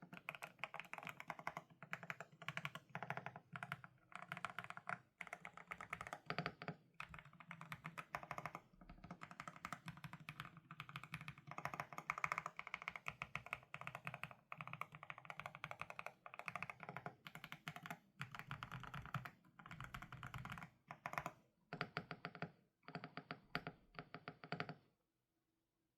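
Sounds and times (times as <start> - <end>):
fast typing on mechanical keyboard: 0.0 - 22.1.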